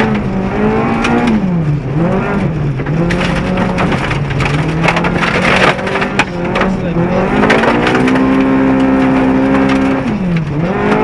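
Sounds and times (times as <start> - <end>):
rally car engine from inside: 0.0 - 11.0
gravel clattering against underbody: 2.1 - 11.0.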